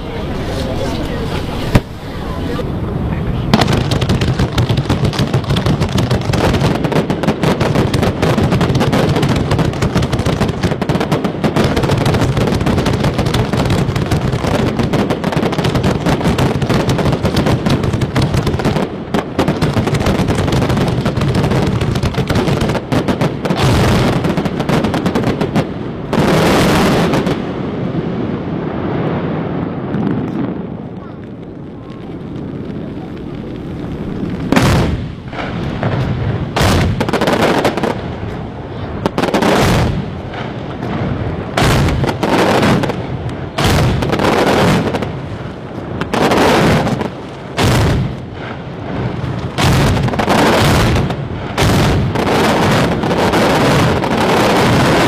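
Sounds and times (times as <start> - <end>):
fireworks launching and bursting: 0.0 - 55.0.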